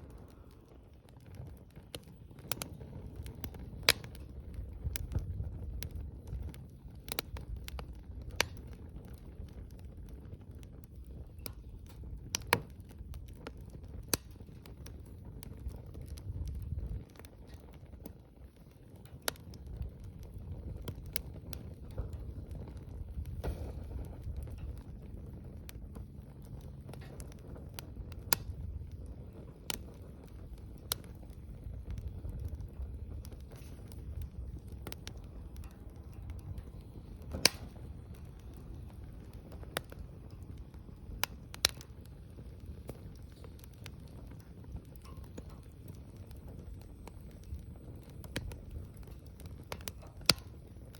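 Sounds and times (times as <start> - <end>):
fire crackling and popping: 0.0 - 50.9
low steady rumble: 0.0 - 50.9
wood fire burning: 0.0 - 50.9.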